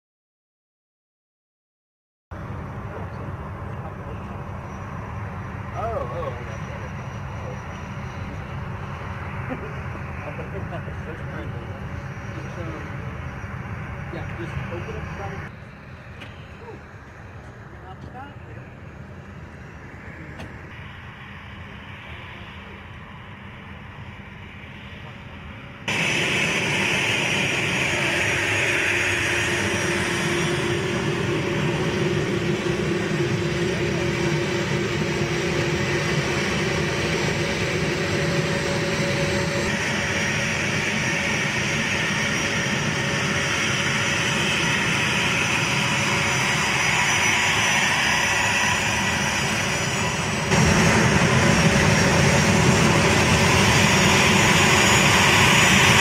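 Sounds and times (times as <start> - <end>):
jet engines whining and roaring: 2.4 - 56.0.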